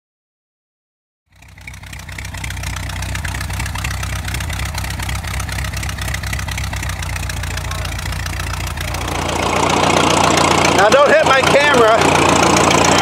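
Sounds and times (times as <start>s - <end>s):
tractor engine idling: 1.3s - 13.0s.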